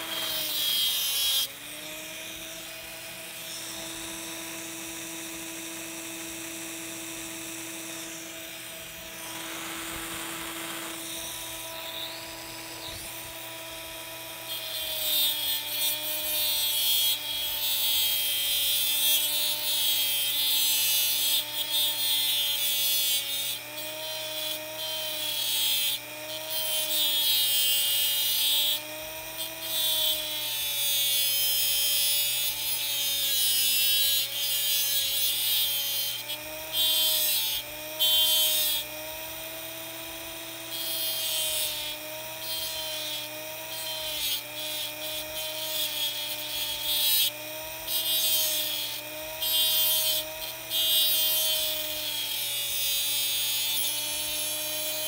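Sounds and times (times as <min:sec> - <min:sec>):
cut-off wheel grinding steel: 0:00.0 - 0:55.0
rotary tool motor whining: 0:00.0 - 0:55.0.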